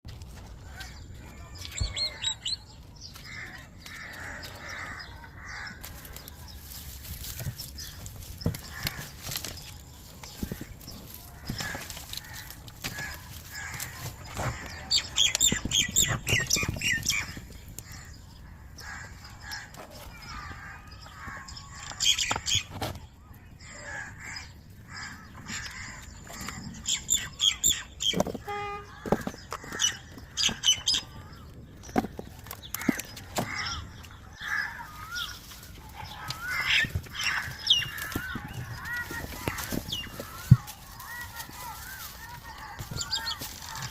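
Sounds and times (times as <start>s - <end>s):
birds chirping and squawking: 0.1s - 43.9s.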